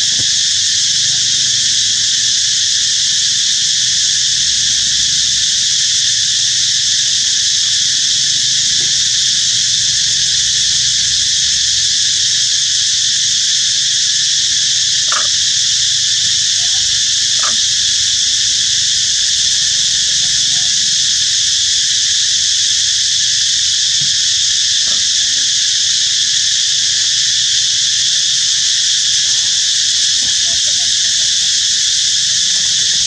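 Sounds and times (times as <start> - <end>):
insect chorus droning: 0.0 - 33.0.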